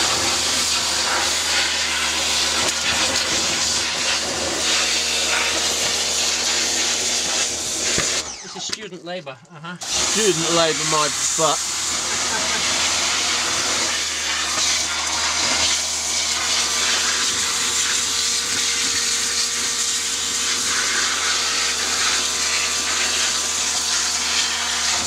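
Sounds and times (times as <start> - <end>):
pressure washer water jet spraying: 0.0 - 8.7, 9.8 - 25.0.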